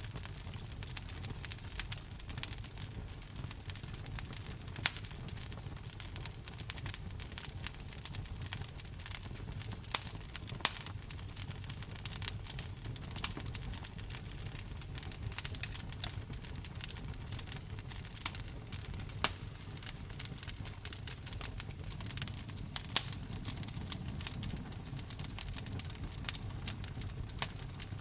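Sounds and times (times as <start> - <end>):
low rumble of burning: 0.0 - 28.0
wood fire crackling: 0.0 - 28.0.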